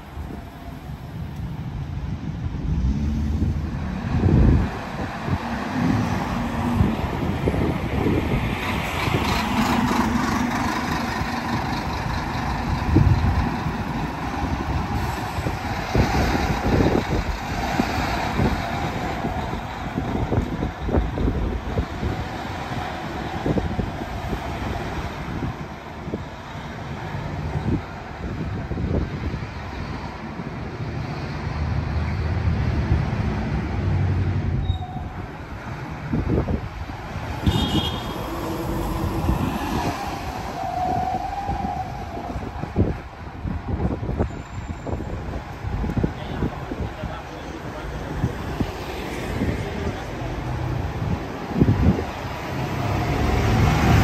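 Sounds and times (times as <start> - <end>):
bus passing and pulling away: 0.0 - 54.0
street traffic noise: 0.0 - 54.0.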